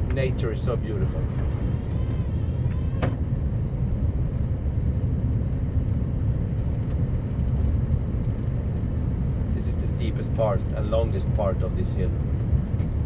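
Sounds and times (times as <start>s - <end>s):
diesel truck engine rumbling: 0.0s - 13.0s
road and plow noise: 0.0s - 13.0s.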